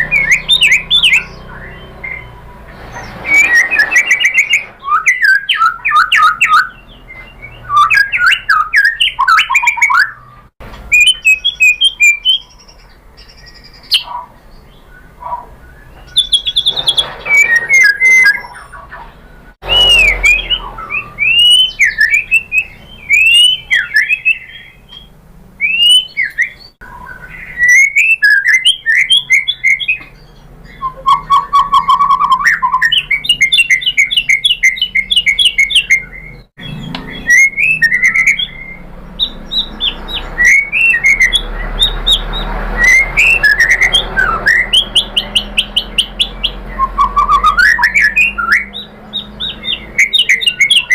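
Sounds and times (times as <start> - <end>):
bird singing whistles and trills: 0.0 - 50.9.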